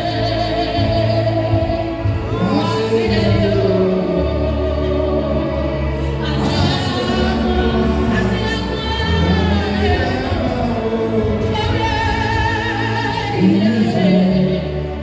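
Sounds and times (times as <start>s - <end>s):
low steady accompaniment: 0.0s - 15.0s
voices singing held notes: 0.0s - 15.0s.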